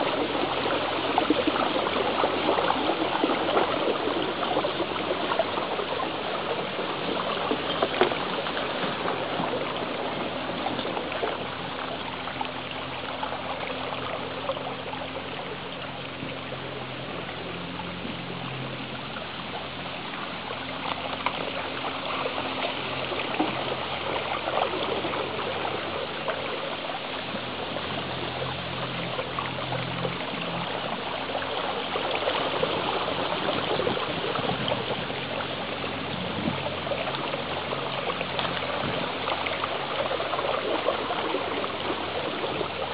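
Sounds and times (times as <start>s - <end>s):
paddle wheels churning water: 0.0s - 42.9s.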